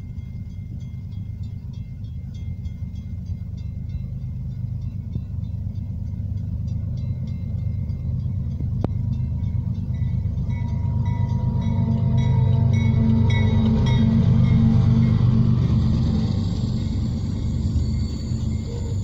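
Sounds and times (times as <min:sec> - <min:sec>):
crossing bell ringing: 0:00.0 - 0:19.0
locomotive engine rumble: 0:00.0 - 0:19.0.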